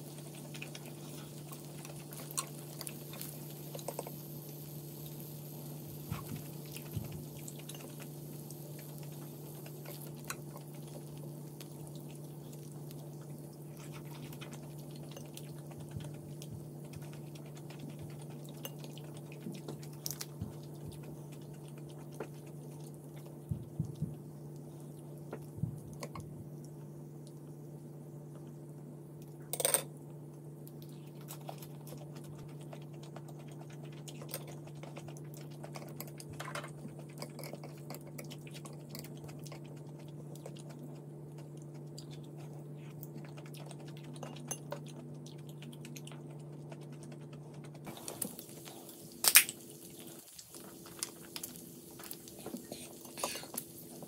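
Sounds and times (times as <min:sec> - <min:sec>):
chewing: 0:00.0 - 0:27.5, 0:30.6 - 0:54.0
steady low hum: 0:00.0 - 0:54.0.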